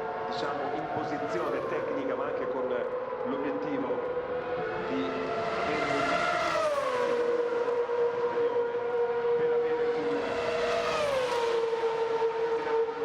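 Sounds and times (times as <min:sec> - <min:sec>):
racing car engine whine: 0:00.0 - 0:13.0.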